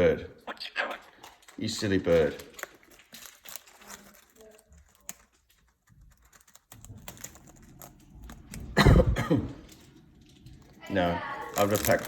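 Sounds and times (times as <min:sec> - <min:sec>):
bird pecking plastic packet: 0:00.8 - 0:12.0.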